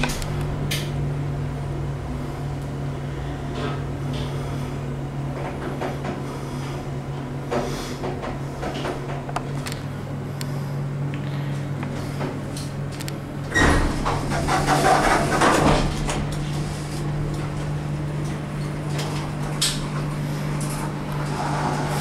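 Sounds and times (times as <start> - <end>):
elevator doors sliding: 0.0 - 9.7, 11.9 - 22.0
elevator low hum: 0.0 - 22.0.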